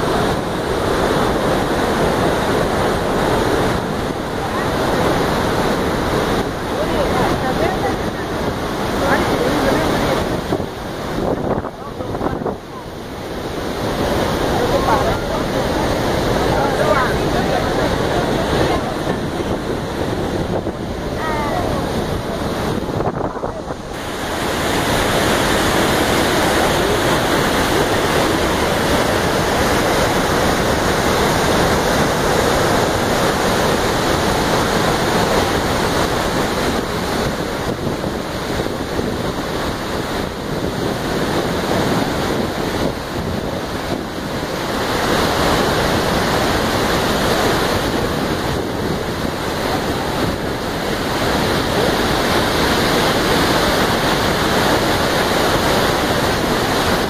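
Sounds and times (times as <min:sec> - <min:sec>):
waterfall rushing: 0:00.0 - 0:57.0
wind buffeting microphone: 0:00.0 - 0:57.0.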